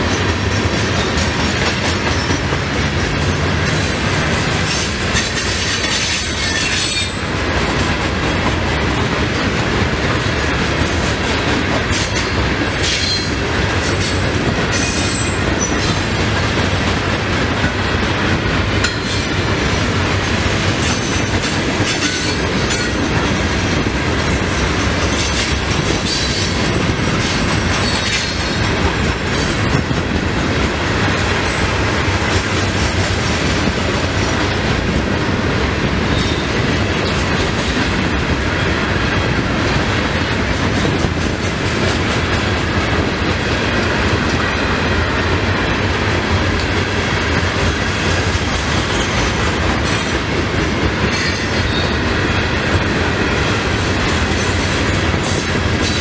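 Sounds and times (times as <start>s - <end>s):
steel wheels rumbling on rail: 0.0s - 56.0s
wheels clickety-clack over joints: 0.0s - 56.0s.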